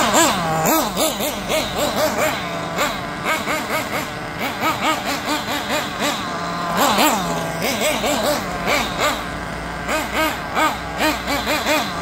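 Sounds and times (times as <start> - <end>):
model buggy engine revving: 0.0 - 12.0.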